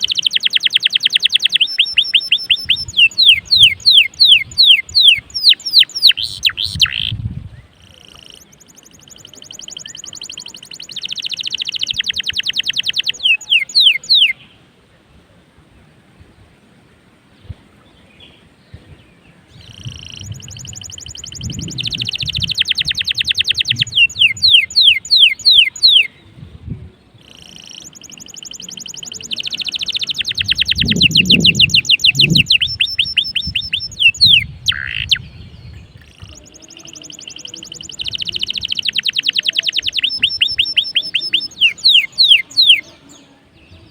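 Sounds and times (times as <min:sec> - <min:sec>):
canary singing fast trills: 0:00.0 - 0:14.5, 0:19.5 - 0:26.2, 0:27.2 - 0:43.9.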